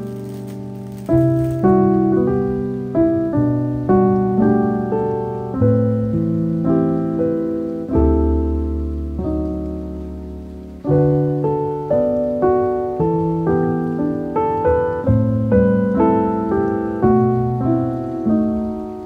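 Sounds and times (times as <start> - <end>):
rain: 0.0 - 19.0
slow piano chords: 0.0 - 19.0.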